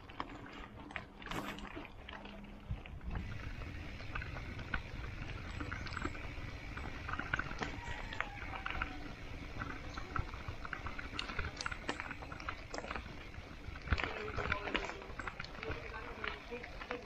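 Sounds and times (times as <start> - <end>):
low rumble of road and wind: 0.0 - 17.0
light clicks from bike: 3.1 - 17.0.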